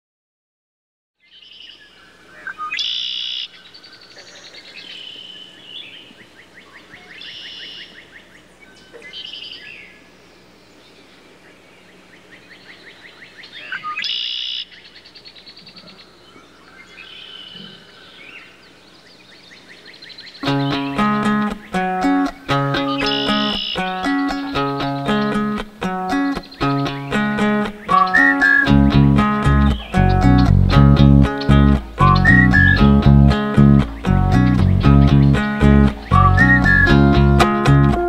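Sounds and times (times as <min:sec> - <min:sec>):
birds singing: 0:01.2 - 0:38.0.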